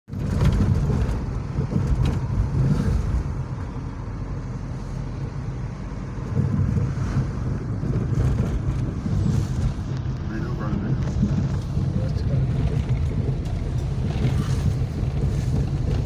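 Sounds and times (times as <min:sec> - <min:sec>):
car engine and tyre rumble: 0:00.1 - 0:16.0
wind noise: 0:00.1 - 0:16.0.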